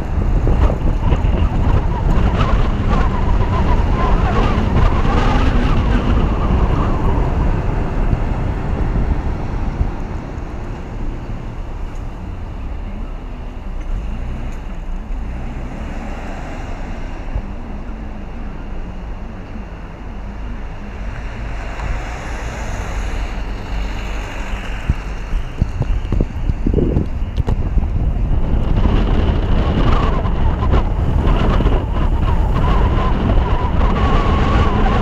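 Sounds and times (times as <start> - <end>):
car road noise: 0.0 - 35.0
wind rumbling on microphone: 0.0 - 35.0.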